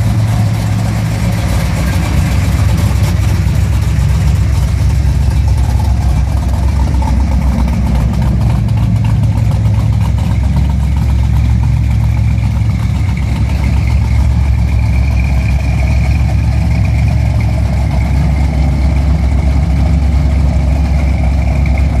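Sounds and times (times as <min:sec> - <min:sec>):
car engine idling loudly: 0:00.0 - 0:22.0.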